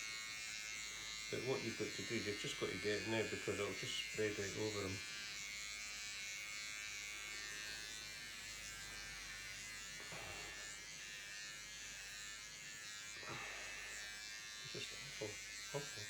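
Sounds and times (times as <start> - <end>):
electric shaver buzzing: 0.0 - 16.0.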